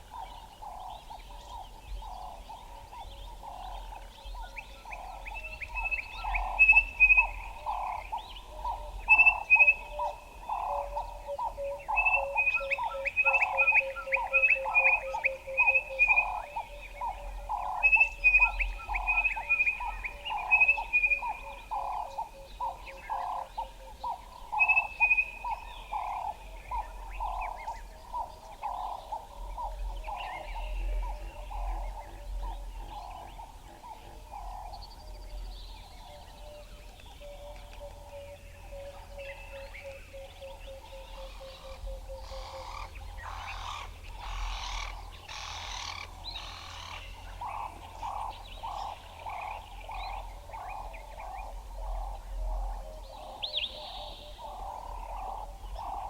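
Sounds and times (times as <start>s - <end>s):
bird chirps: 0.0s - 56.0s
low repeated bird call: 0.0s - 56.0s.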